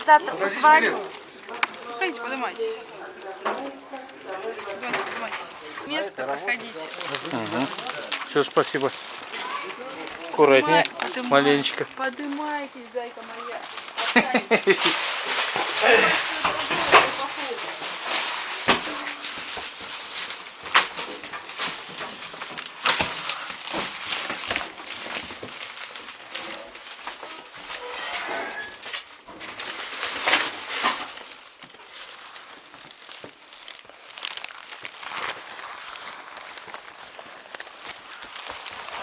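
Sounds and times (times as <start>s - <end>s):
rustling and crinkling: 0.0s - 39.0s.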